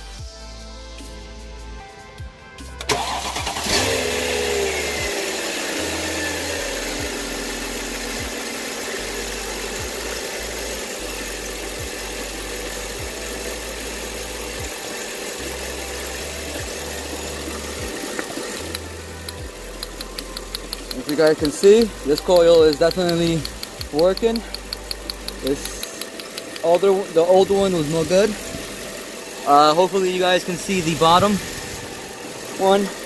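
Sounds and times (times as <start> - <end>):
car engine starting and idling: 2.8 - 33.0.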